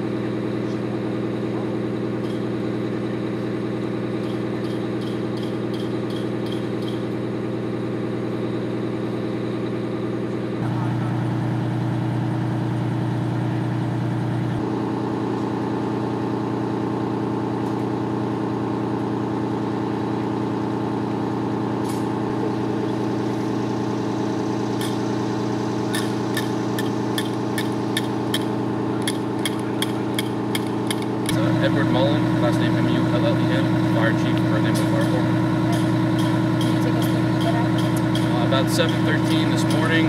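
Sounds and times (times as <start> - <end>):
fire engine idling: 0.0 - 40.0.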